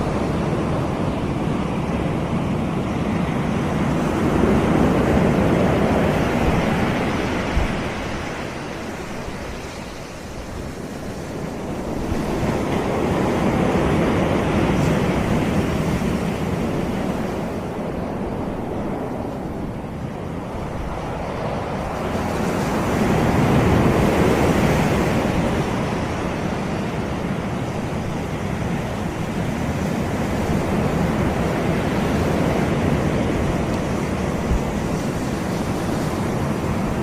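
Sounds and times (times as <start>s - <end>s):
sea waves breaking on beach: 0.0s - 37.0s.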